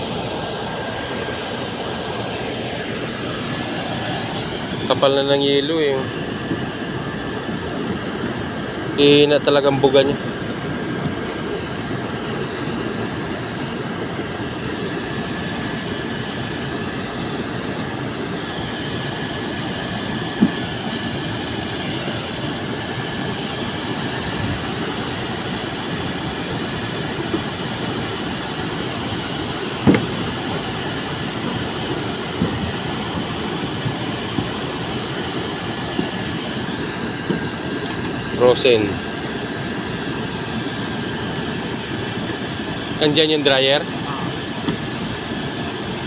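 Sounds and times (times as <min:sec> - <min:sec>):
air conditioner rumble: 0:00.0 - 0:46.0
thin steady whine: 0:00.0 - 0:46.0.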